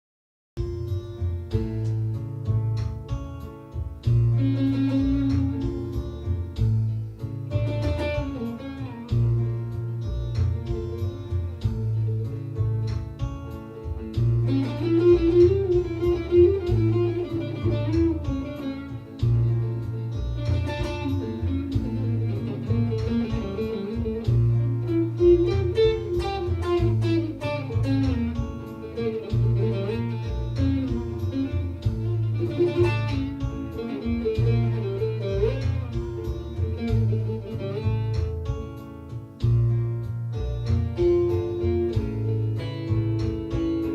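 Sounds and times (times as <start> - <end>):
low bass accompaniment: 0.6 - 43.9
plucked lute melody: 0.6 - 43.9.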